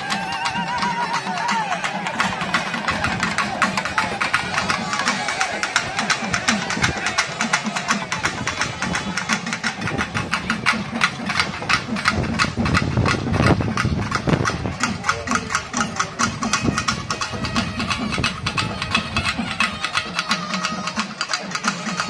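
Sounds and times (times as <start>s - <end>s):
frame drums beaten with sticks: 0.0s - 22.0s.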